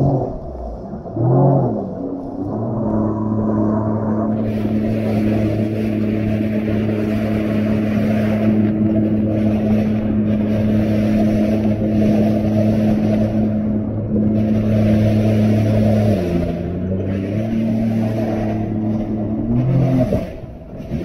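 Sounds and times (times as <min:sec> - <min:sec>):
jet ski engine humming: 0:00.0 - 0:21.0
rushing noise: 0:00.0 - 0:21.0.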